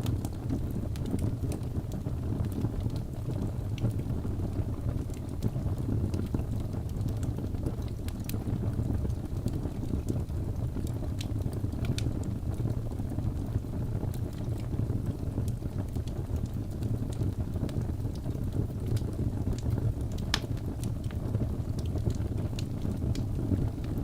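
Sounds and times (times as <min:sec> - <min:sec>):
fire crackles and pops: 0:00.0 - 0:24.0
wood fire roaring: 0:00.0 - 0:24.0.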